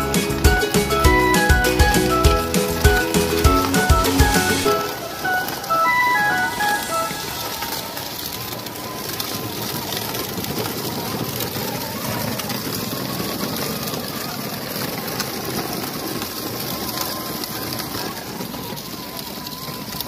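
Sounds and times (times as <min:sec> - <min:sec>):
toy tractor rolling on gravel: 0:01.0 - 0:20.0.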